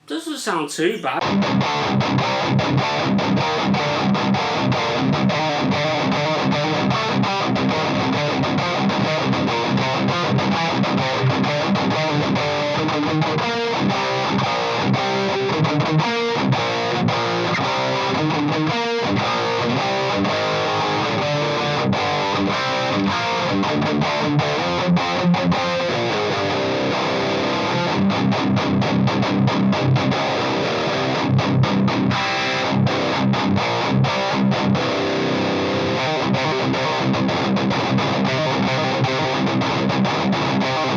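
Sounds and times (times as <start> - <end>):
distorted electric guitar riffing: 1.0 - 40.9.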